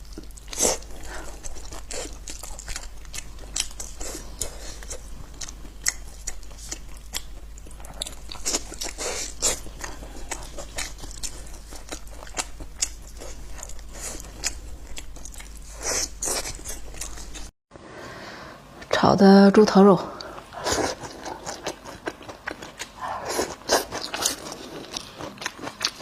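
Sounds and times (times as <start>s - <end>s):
person chewing crunchy food: 0.0s - 17.5s, 20.3s - 26.0s.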